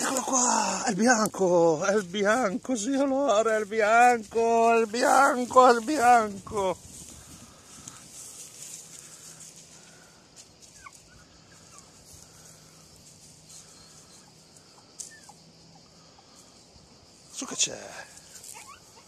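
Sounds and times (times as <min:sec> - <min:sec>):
rustling in dry leaves: 0:00.0 - 0:15.3, 0:16.2 - 0:19.0
steady high hiss: 0:00.0 - 0:18.9.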